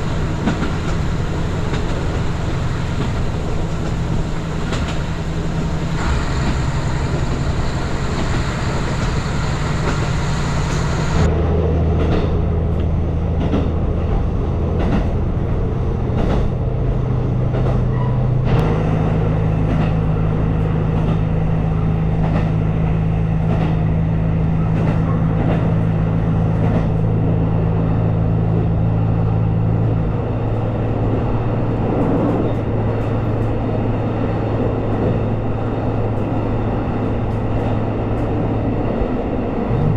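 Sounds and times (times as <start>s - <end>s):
train engine hum: 0.0s - 39.9s
train wheels rumbling: 0.0s - 39.9s.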